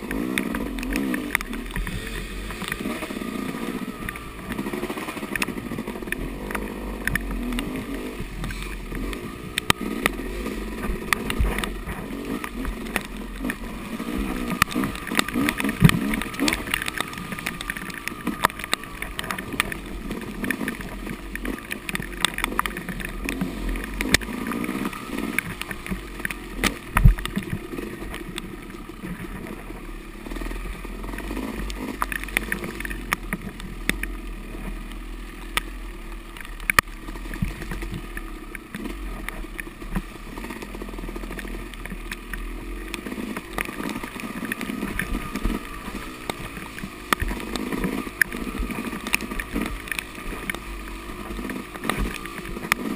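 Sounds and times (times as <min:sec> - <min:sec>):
dirt bike engine revving: 0:00.0 - 0:36.1, 0:36.9 - 0:52.9.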